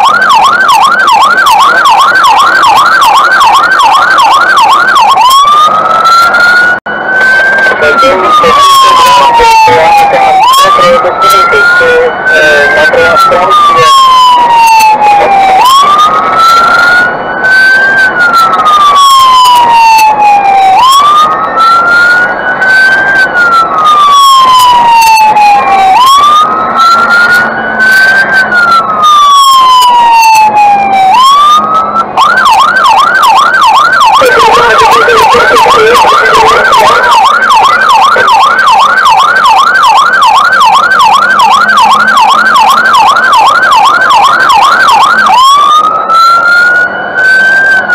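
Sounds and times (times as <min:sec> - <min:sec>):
fire engine siren wailing and yelping: 0:00.0 - 0:47.9.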